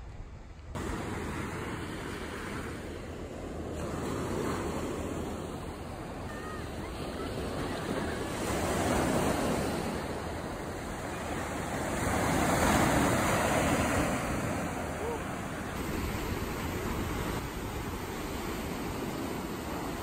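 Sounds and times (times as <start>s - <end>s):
small waves breaking on beach: 0.8s - 20.0s.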